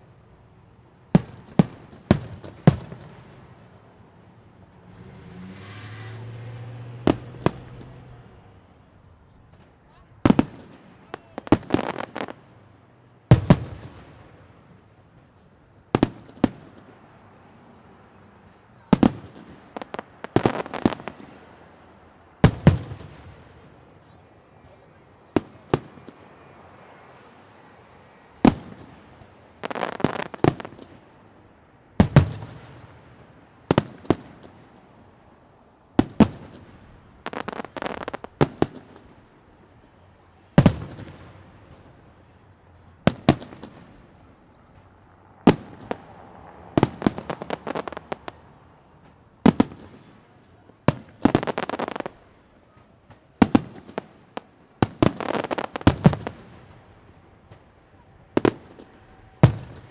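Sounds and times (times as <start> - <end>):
firework crackling: 0.4 - 59.9.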